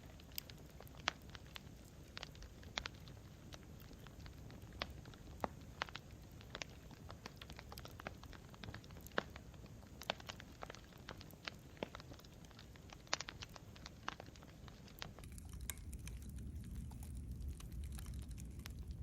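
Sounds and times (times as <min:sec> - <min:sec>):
campfire pops and snaps: 0:00.0 - 0:19.0
low rumble of burning: 0:00.0 - 0:19.0.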